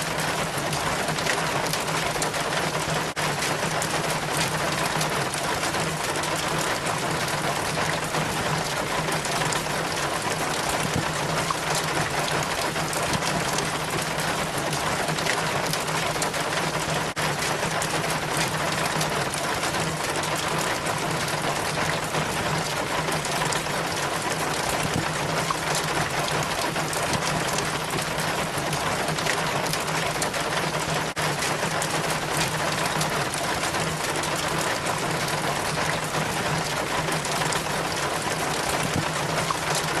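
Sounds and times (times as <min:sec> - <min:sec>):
rainwater trickling down rain chain: 0:00.0 - 0:40.0.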